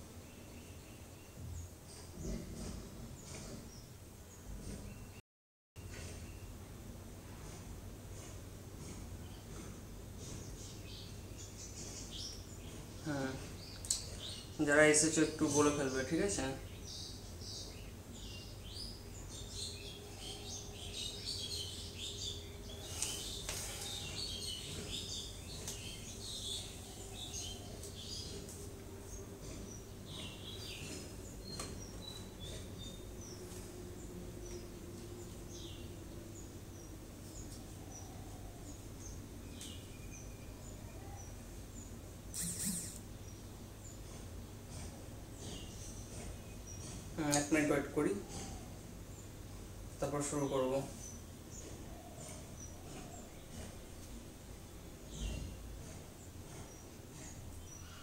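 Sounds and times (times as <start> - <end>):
small birds chirping: 0.0 - 5.2, 5.8 - 58.0
steady low hum: 5.8 - 58.0.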